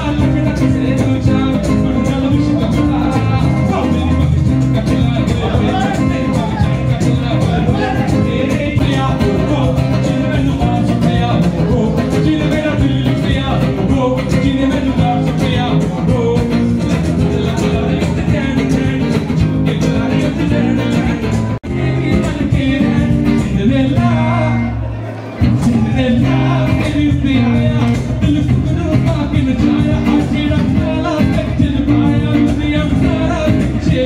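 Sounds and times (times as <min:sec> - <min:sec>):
guitar: 0:00.0 - 0:34.0
man singing into a microphone: 0:00.0 - 0:34.0.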